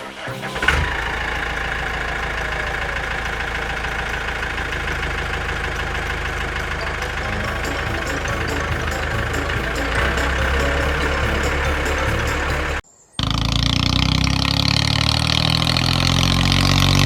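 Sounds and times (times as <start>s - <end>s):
vehicle engine starting and running: 0.0s - 17.0s.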